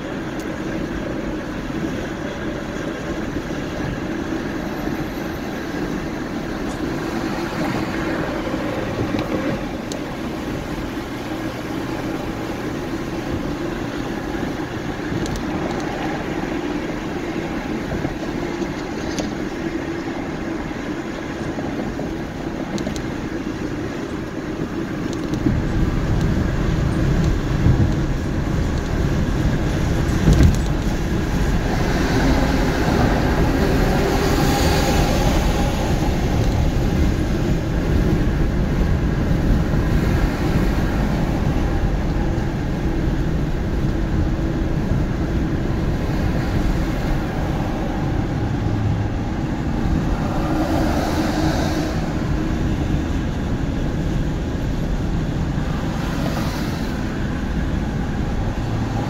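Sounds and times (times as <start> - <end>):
heavy low rumble: 0.0 - 56.3
car road and engine noise: 0.0 - 59.0.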